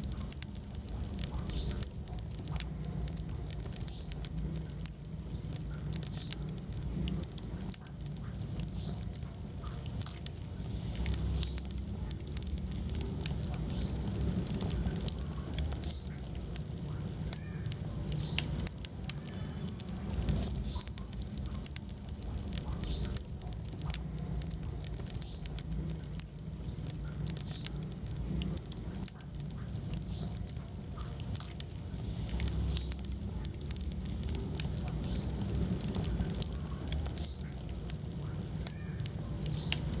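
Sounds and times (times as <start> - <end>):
fire crackling and popping: 0.0 - 40.0
wood fire burning: 0.0 - 40.0.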